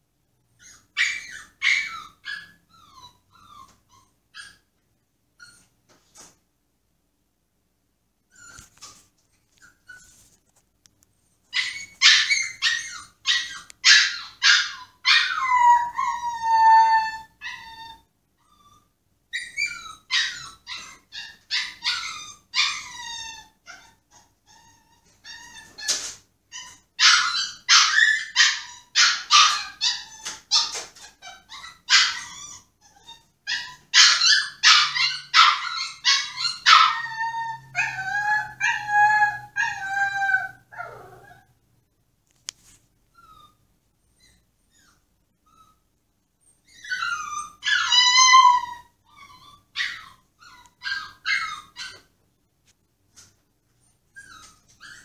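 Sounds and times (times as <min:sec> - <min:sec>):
dog whining and yelping: 0:00.5 - 0:04.7, 0:05.4 - 0:05.8, 0:08.3 - 0:10.3, 0:11.5 - 0:41.6, 0:43.1 - 0:52.1, 0:53.8 - 0:55.0.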